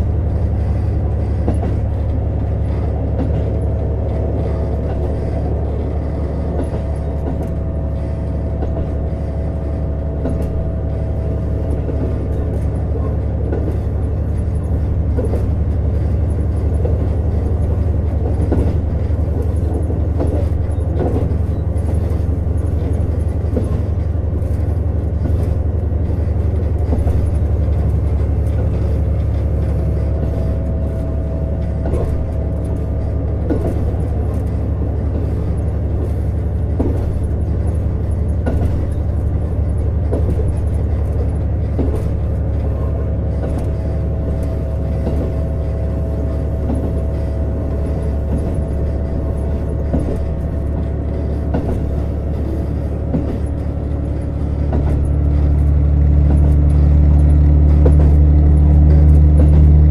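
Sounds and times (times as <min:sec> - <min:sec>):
diesel engine drone: 0:00.0 - 0:59.9
steady whine: 0:00.0 - 0:59.9
wheel and rail noise: 0:00.0 - 0:59.9.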